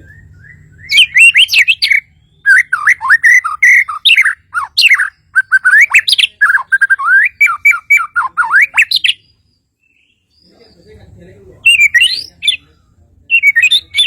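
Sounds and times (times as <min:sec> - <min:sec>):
bird singing whistled phrases: 0:00.0 - 0:10.5, 0:11.6 - 0:14.0.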